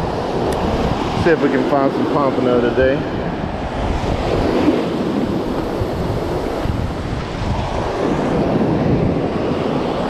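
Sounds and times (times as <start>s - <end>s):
surf breaking on beach: 0.0s - 10.0s
wind buffeting microphone: 0.0s - 10.0s.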